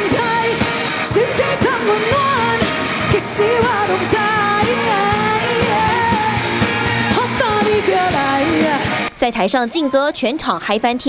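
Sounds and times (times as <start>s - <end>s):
woman singing with vibrato: 0.0s - 9.1s
backing band playing: 0.0s - 9.2s.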